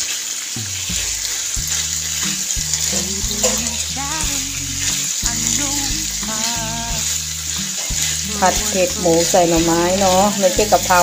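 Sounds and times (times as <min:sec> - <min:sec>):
meat sizzling in a frying pan: 0:00.0 - 0:11.0
background music: 0:00.6 - 0:11.0
spatula stirring: 0:01.0 - 0:11.0.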